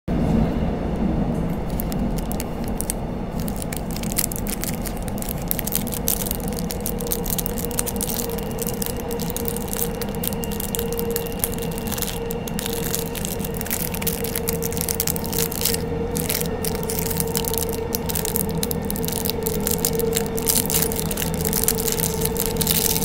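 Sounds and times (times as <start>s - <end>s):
steady whine: 0.1s - 23.0s
train rumbling: 0.1s - 23.0s
plastic bags crackling: 1.5s - 23.0s.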